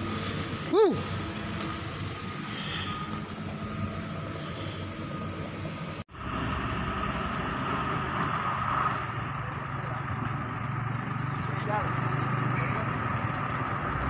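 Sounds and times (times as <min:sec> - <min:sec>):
diesel truck engines running: 0:00.0 - 0:14.0
truck pulling out: 0:00.0 - 0:14.0.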